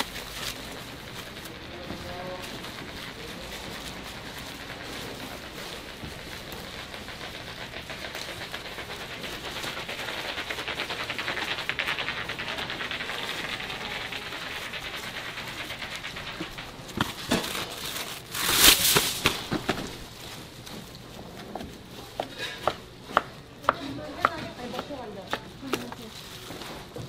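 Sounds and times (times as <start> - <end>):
plastic gloves crinkling: 0.0 - 22.5, 23.4 - 27.0.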